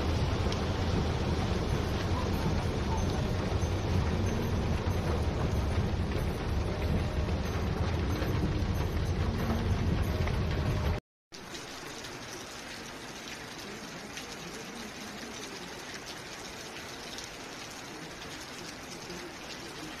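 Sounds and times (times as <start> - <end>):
heavy rain and rushing water: 0.0 - 20.0.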